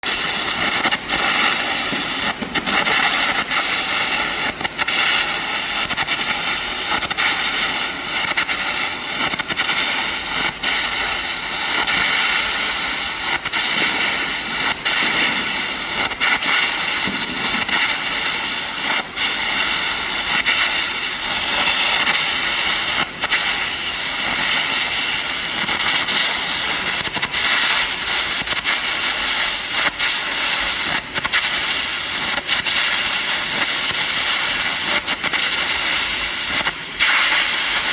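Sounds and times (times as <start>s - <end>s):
arc crackling and popping: 0.0s - 37.9s
compressed air jet hissing: 0.1s - 37.9s.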